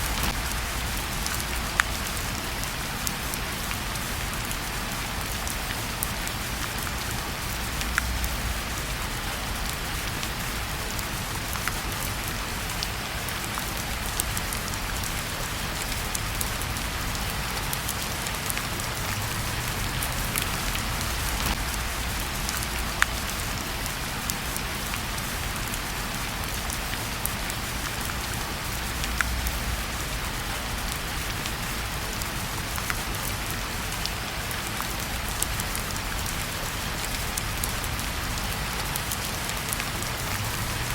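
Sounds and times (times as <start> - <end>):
steady rain falling: 0.0 - 40.9
wood fire crackling: 0.0 - 40.9.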